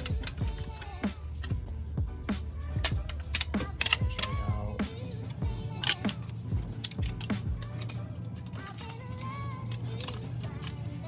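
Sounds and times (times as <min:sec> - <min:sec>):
background music with singing: 0:00.0 - 0:11.0
steady low hum: 0:00.0 - 0:11.0.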